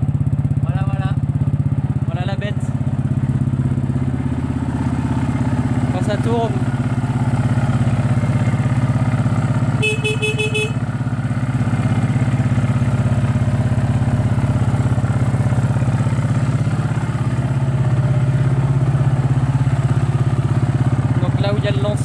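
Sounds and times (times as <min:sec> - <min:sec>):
quad engine idling: 0:00.0 - 0:22.0.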